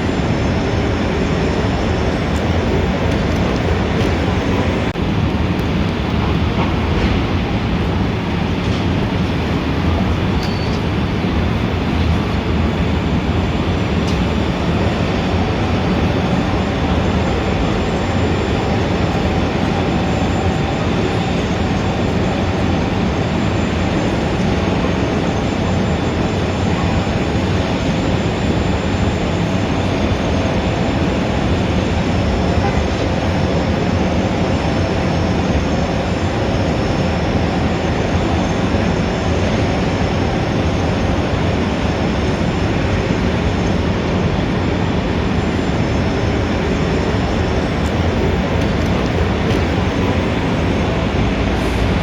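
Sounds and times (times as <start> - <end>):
city street traffic rumble: 0.0 - 52.0.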